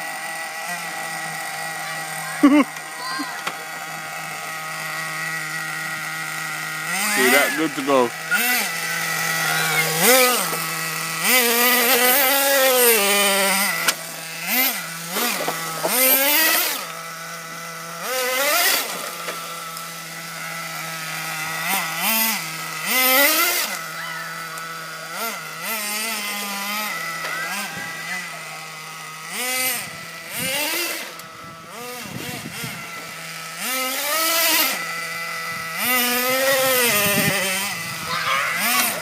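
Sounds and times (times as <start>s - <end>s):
small two-stroke engine revving: 0.0s - 39.0s.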